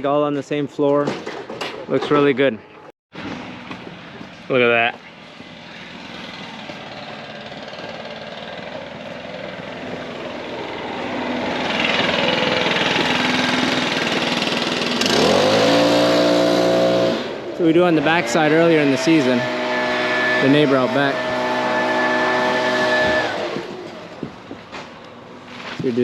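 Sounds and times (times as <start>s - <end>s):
road noise: 0.0s - 26.0s
vehicle engine revving: 3.3s - 24.6s.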